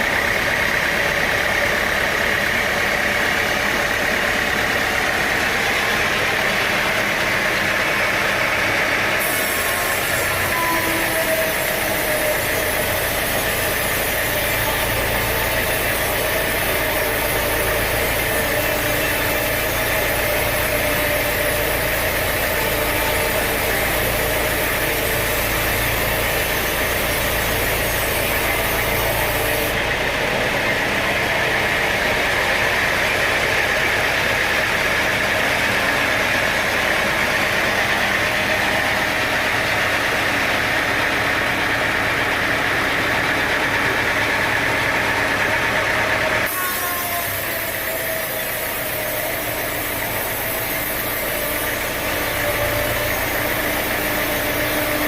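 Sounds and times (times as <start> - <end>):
sawmill machinery idling drone: 0.0 - 55.0.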